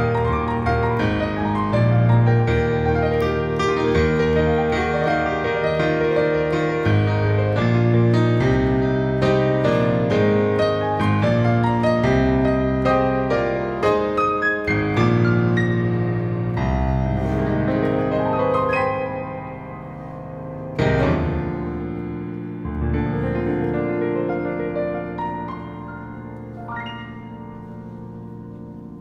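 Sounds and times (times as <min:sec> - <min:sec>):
solo piano piece: 0:00.0 - 0:29.0.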